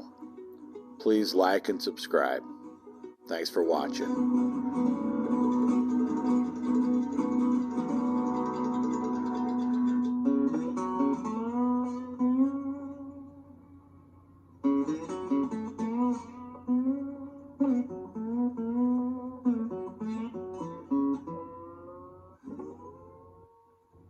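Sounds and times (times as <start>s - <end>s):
guitar plucked notes with pitch bends: 0.0s - 24.0s.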